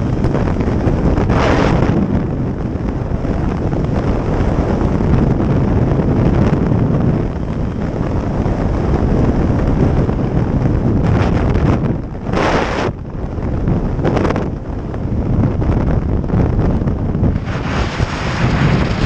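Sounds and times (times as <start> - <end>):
motorcycle road and engine noise: 0.0 - 19.0
wind buffeting microphone: 0.0 - 19.0.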